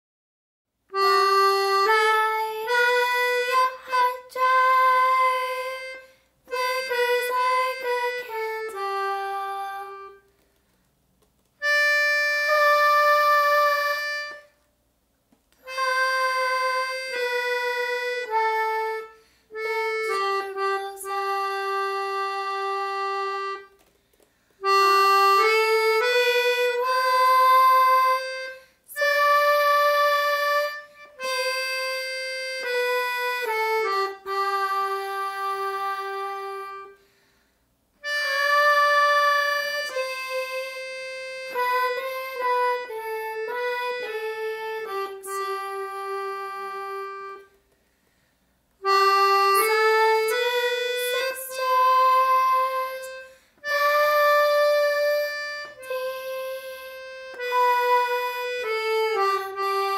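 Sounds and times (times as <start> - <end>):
free-reed instrument solo melody: 0.9 - 10.2, 11.6 - 14.5, 15.6 - 23.8, 24.6 - 37.0, 38.0 - 47.6, 48.8 - 59.9.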